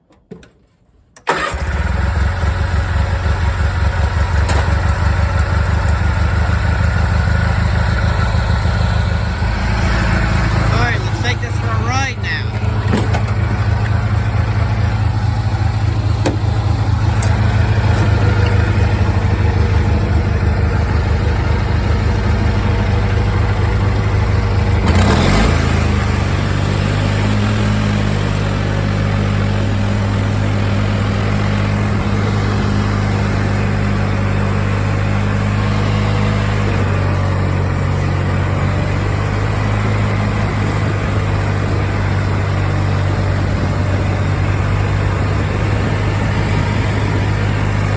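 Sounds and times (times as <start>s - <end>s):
lawn tractor engine running: 0.5s - 47.9s.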